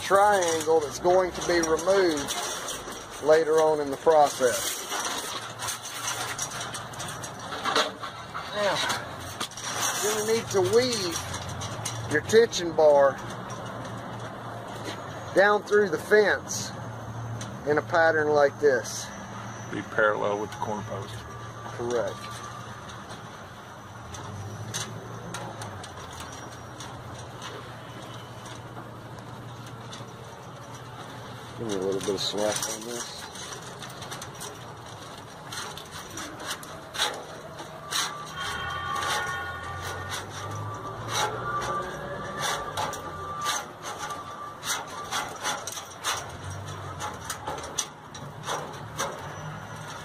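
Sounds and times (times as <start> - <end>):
chain-link fence rattling: 0.0 - 50.0.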